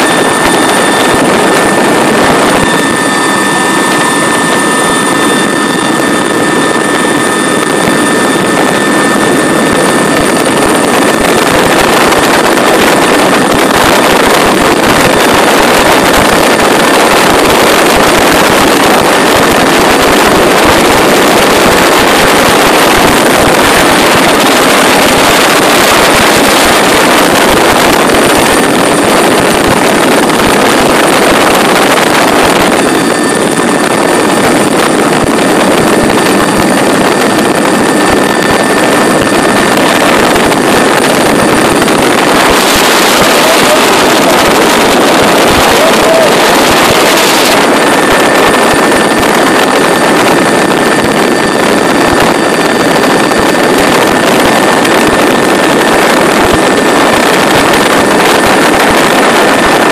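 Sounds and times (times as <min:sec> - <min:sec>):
helicopter rotor and turbine noise: 0:00.0 - 0:59.9
high turbine whines: 0:00.0 - 0:59.9
wind rushing: 0:00.0 - 0:59.9.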